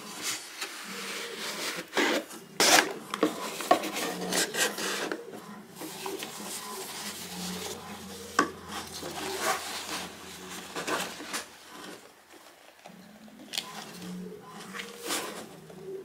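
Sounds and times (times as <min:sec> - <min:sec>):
packaging rustling: 0:00.0 - 0:05.2, 0:05.8 - 0:15.8.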